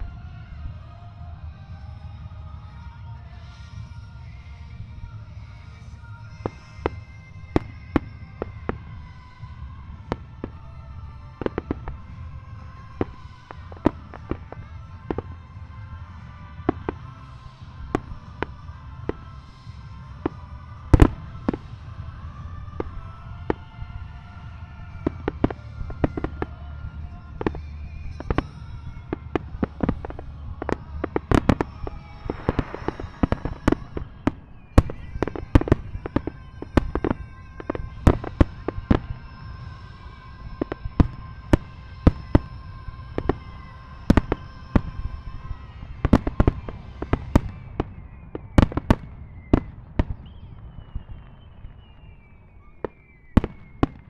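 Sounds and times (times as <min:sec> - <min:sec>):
background music: 0:00.0 - 0:54.0
fireworks bangs: 0:02.8 - 0:54.0.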